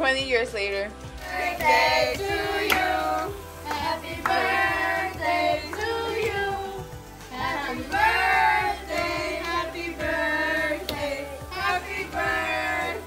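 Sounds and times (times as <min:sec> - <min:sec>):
music track: 0:00.0 - 0:13.0
child and woman singing: 0:01.2 - 0:13.0.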